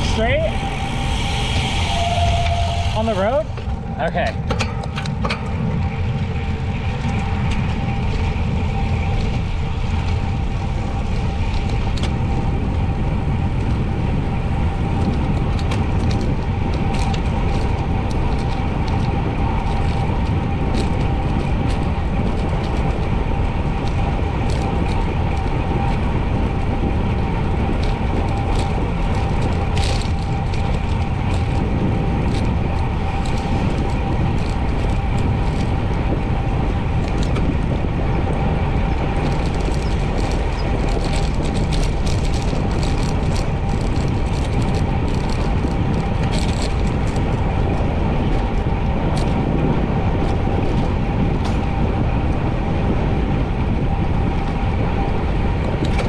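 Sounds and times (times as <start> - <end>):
faint steady whine: 0.0 - 56.0
wind rumbling on microphone: 0.0 - 56.0
light ticks from bike: 4.5 - 13.8, 14.8 - 56.0.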